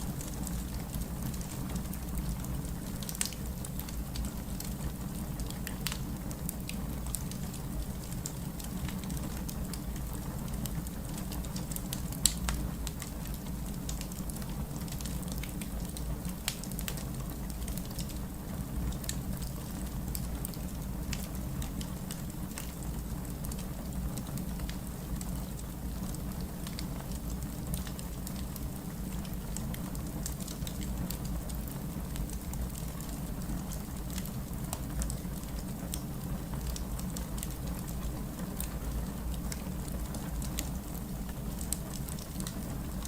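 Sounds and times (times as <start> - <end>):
rain: 0.0 - 43.0
wood fire crackling: 0.0 - 43.0.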